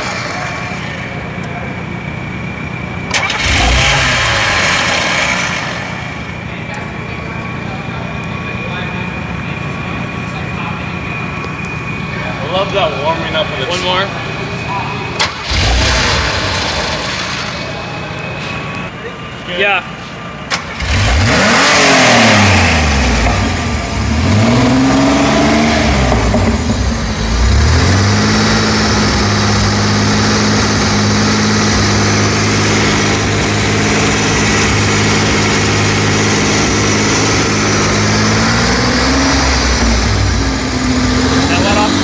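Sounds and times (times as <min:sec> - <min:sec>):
car engine revving and idling: 0:00.0 - 0:42.0.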